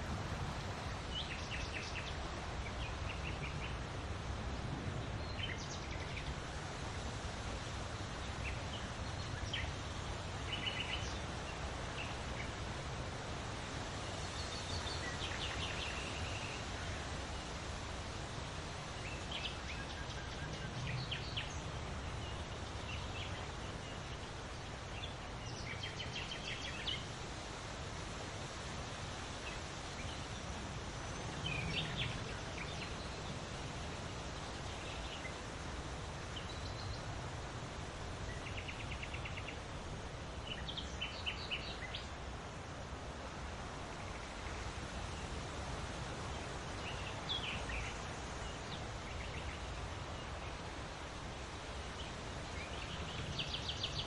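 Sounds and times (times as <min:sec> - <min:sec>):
wind: 0:00.0 - 0:54.0.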